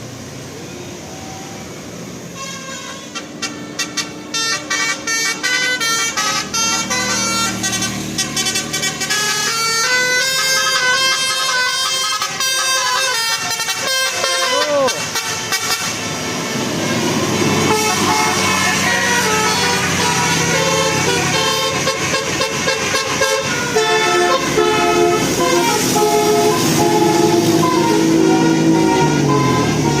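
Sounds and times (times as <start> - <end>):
bus engine running: 0.0 - 30.0
bus musical horn tune: 2.3 - 30.0.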